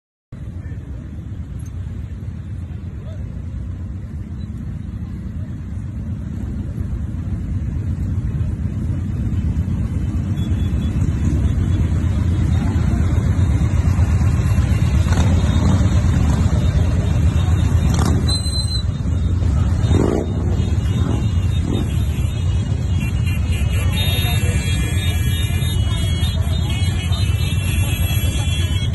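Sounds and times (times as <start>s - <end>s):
motorcycle engines rumbling: 0.4s - 28.9s.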